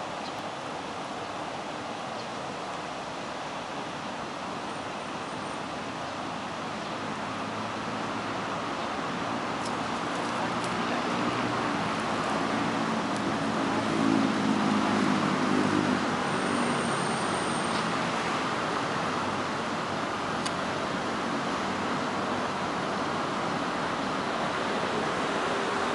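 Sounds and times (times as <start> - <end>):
road traffic noise: 0.0 - 25.9
vehicle engine hum: 0.0 - 25.9.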